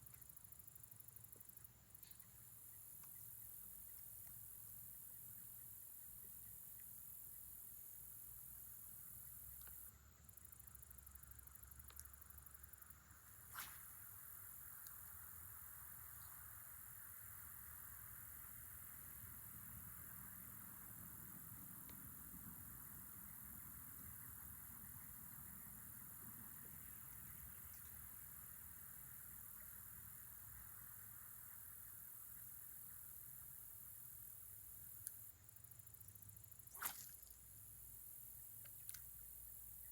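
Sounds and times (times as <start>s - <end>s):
faint outdoor background: 0.0s - 39.9s.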